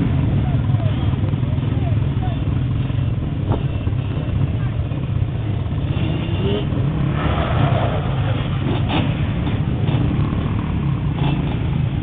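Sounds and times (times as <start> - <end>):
atv and motorcycle engines: 0.0 - 12.0.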